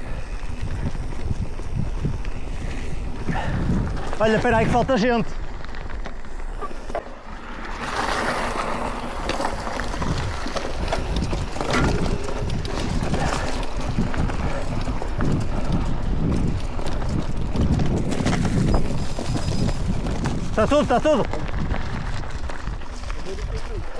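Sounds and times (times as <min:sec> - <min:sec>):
bike tyres crunching over stony trail: 0:00.0 - 0:23.9.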